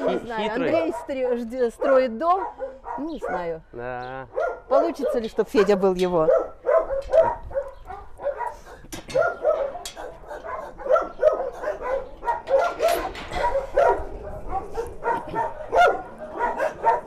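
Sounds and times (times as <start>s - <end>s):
dogs barking: 0.0s - 3.6s, 4.3s - 17.0s.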